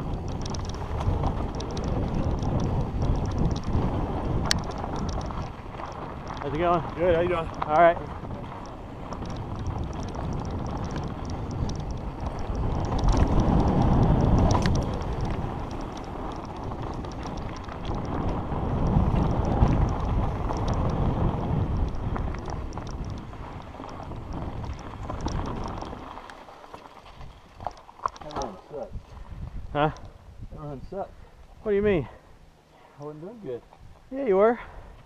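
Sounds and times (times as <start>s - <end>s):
tyres crunching over gravel: 0.0s - 28.7s
bike rattling: 0.0s - 30.3s
wind buffeting microphone: 0.0s - 32.6s.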